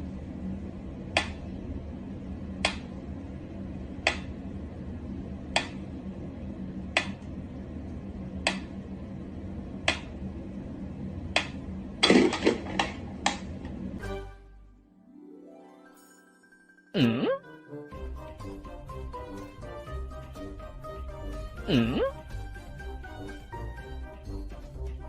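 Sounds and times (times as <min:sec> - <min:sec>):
low steady hum: 0:00.0 - 0:14.9, 0:17.0 - 0:25.0.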